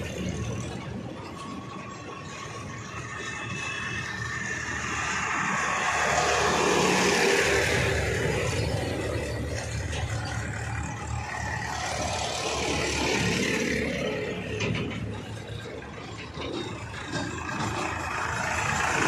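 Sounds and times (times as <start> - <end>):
tractors driving past: 0.0 - 19.0.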